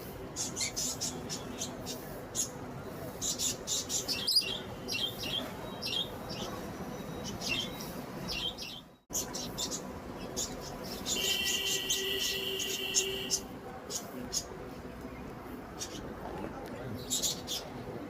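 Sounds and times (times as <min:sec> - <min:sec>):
lovebirds chirping: 0:00.3 - 0:14.6, 0:16.9 - 0:17.8.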